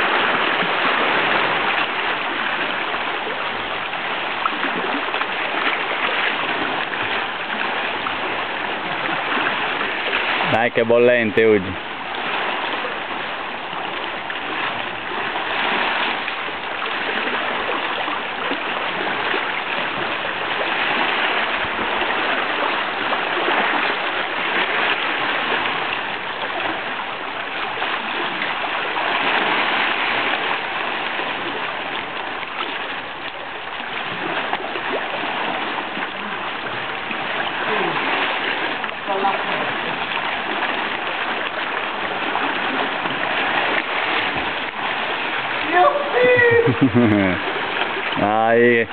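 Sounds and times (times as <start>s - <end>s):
sea water washing: 0.0s - 48.9s
splashing from person wading: 0.0s - 48.9s.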